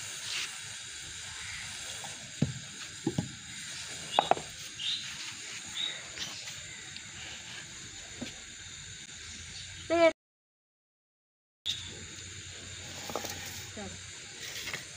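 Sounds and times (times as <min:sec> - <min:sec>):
outdoor hiss: 0:00.0 - 0:10.1, 0:11.7 - 0:14.9.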